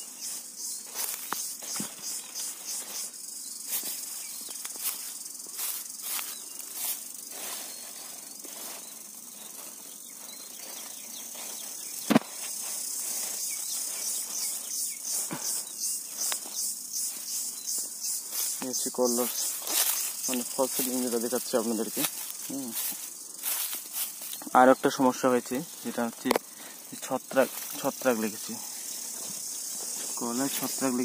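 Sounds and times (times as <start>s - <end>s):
insects chirping: 0.0s - 31.0s
rustling of vines and straw: 0.0s - 31.0s.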